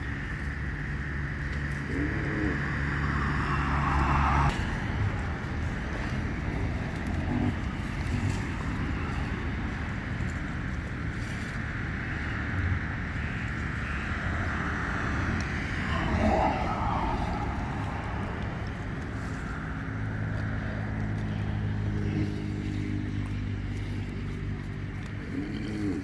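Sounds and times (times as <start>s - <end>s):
engine humming: 0.0s - 26.0s
outdoor background noise: 0.0s - 26.0s.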